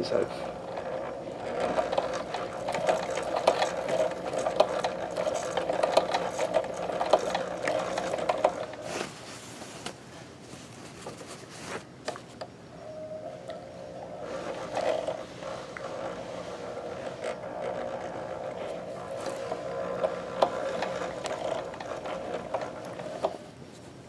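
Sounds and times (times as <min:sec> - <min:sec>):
sewing machine motor hum: 0:00.0 - 0:09.0, 0:12.9 - 0:23.6.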